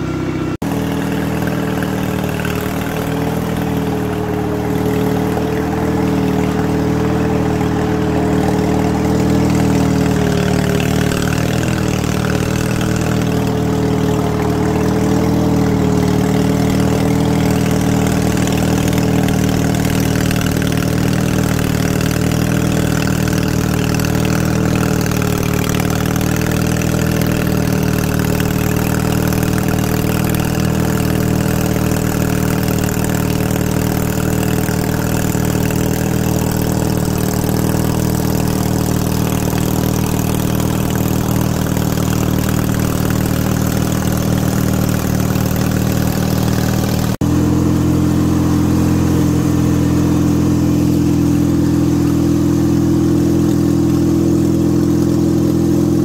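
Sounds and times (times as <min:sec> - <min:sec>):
riding lawn mower engine running: 0:00.0 - 0:56.0.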